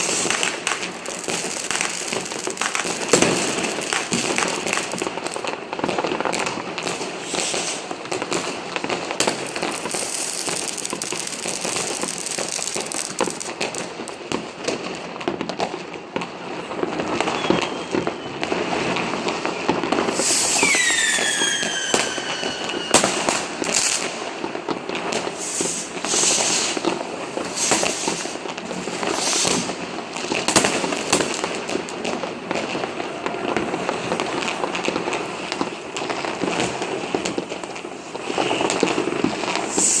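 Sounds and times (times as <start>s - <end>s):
whistling firework: 0.0s - 14.7s, 15.4s - 40.0s
fireworks banging and crackling: 0.0s - 40.0s.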